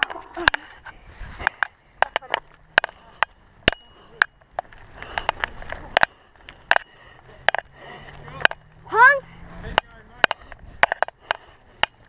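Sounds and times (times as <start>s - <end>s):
bike clacking and rattling: 0.0s - 12.0s
tyres rumbling on dirt: 0.0s - 12.0s.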